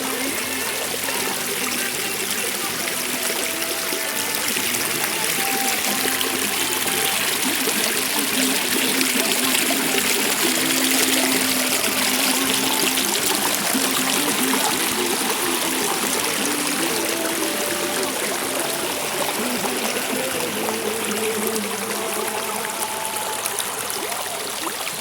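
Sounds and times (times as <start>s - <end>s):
water running and trickling: 0.0s - 25.0s.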